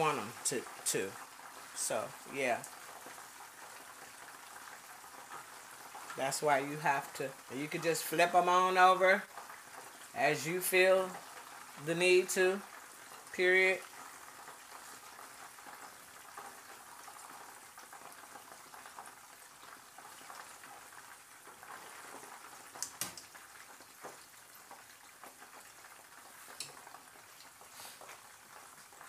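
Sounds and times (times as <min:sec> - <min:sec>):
food frying in hot oil: 0:00.0 - 0:29.0.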